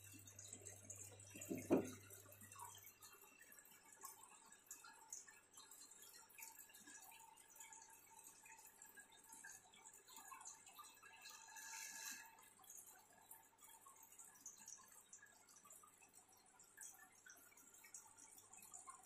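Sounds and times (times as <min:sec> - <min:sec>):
water trickling and dripping: 0:00.0 - 0:19.0.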